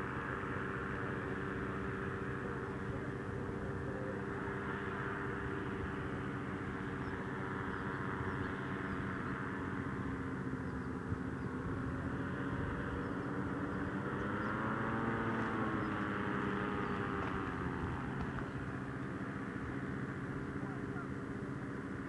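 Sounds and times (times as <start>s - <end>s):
paramotor engine droning: 0.0s - 22.0s.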